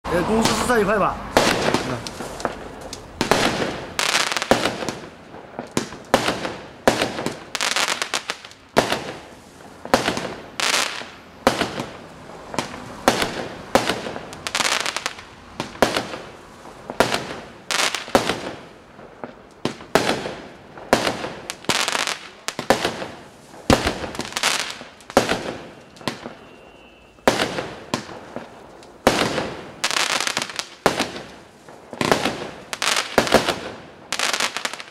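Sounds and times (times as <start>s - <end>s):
firework cake bangs: 0.4s - 16.3s, 16.9s - 34.9s.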